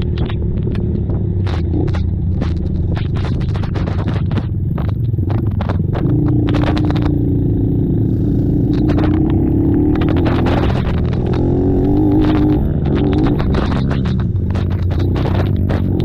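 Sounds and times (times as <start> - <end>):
scraping noises: 0.0 - 7.3, 8.0 - 16.0
atv engines running: 0.0 - 16.0.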